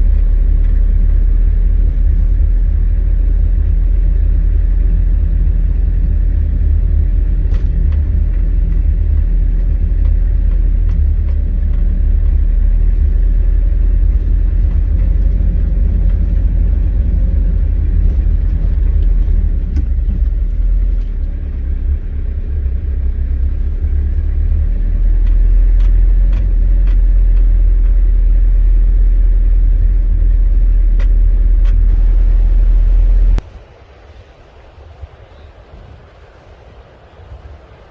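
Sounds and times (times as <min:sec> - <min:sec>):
truck engine low rumble: 0:00.0 - 0:37.9.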